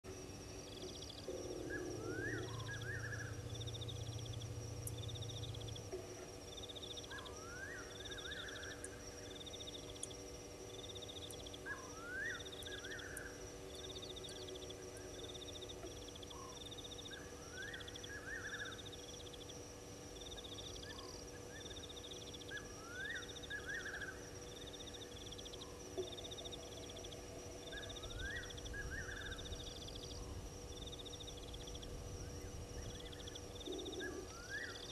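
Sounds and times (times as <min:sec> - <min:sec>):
insects high trill: 0:00.1 - 0:34.9
low hum: 0:00.1 - 0:34.9
soft chirp: 0:00.7 - 0:34.9.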